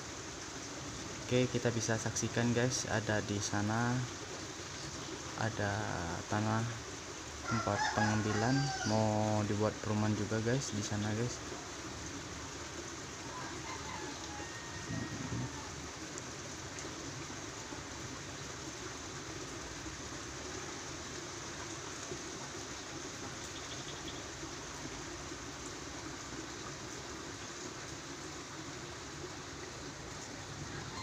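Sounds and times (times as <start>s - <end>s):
light drizzle hissing: 0.0s - 31.0s.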